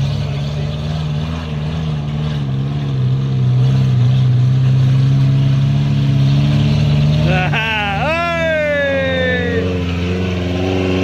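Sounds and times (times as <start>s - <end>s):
off-road vehicle engine droning: 0.0s - 11.0s.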